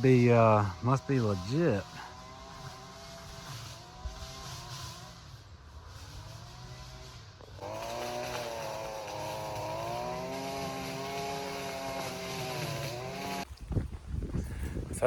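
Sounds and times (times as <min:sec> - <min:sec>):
string trimmer engine running: 0:00.0 - 0:13.5.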